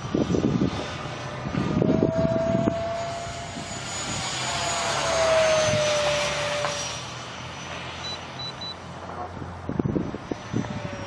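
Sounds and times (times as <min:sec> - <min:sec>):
electric ducted fan jet whine: 0:00.0 - 0:11.0.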